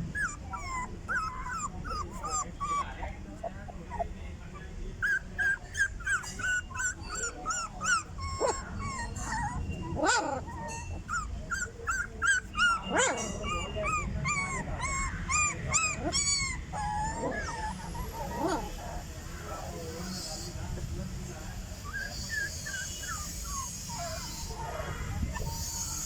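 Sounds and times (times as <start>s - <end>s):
dog whimpering and yipping: 0.0s - 18.9s, 21.8s - 24.6s, 25.2s - 26.0s.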